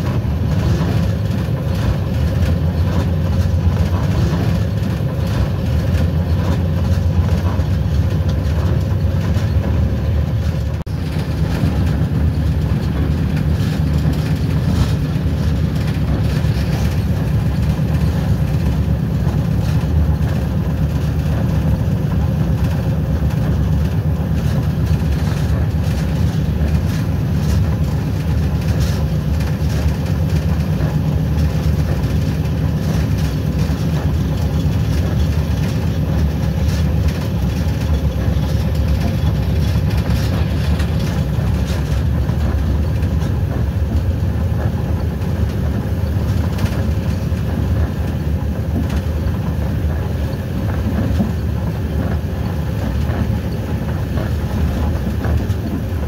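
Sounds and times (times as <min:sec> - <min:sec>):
locomotive engine rumble: 0:00.0 - 0:56.0
train running along track: 0:00.0 - 0:56.0.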